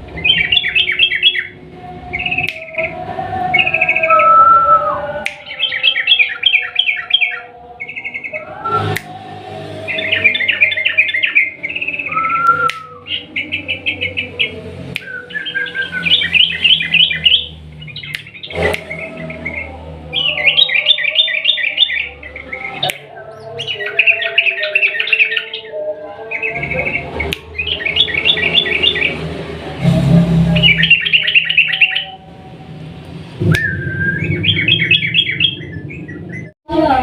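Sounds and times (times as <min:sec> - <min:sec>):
bird chattering song: 0:00.1 - 0:04.4, 0:05.3 - 0:08.9, 0:09.9 - 0:29.3, 0:30.5 - 0:32.2, 0:33.6 - 0:36.5.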